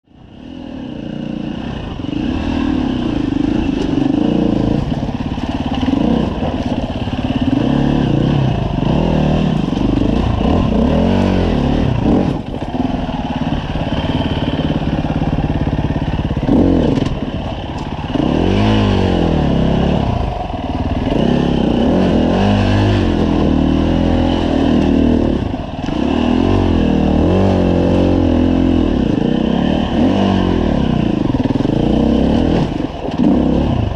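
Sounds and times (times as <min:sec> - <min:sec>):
dirt bike engine revving: 0:00.3 - 0:33.9.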